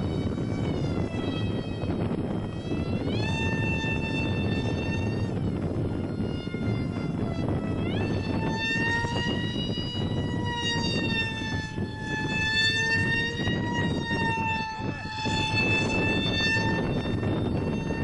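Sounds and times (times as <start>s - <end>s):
electric motor high whine: 0.0s - 18.0s.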